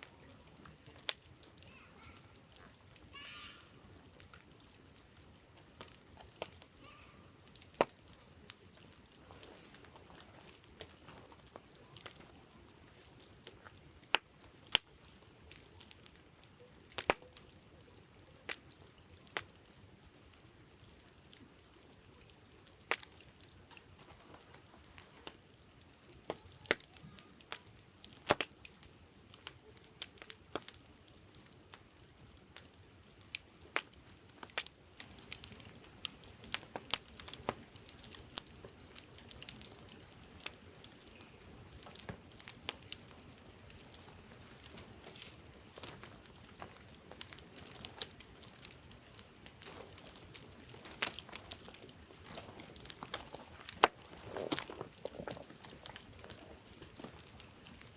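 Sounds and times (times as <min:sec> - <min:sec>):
campfire crackling: 0:00.0 - 0:57.9
faint steady hiss: 0:00.0 - 0:57.9.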